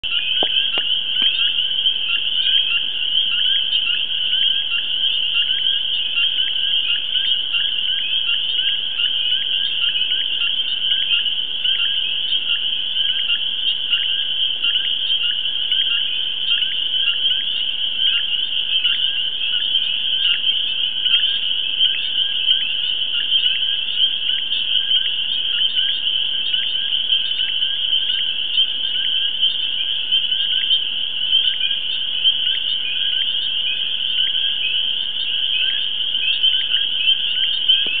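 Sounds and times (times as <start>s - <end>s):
chorus of frogs calling: 0.0s - 38.0s.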